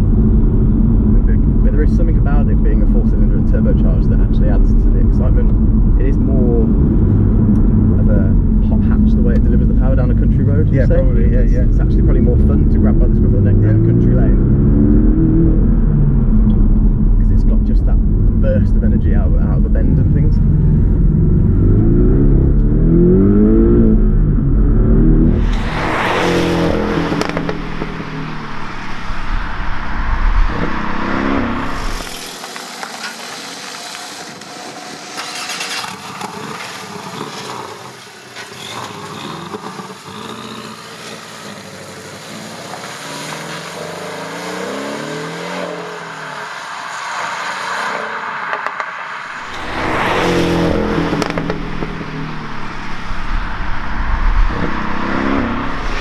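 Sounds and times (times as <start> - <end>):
car engine revving and accelerating: 0.0 - 56.0.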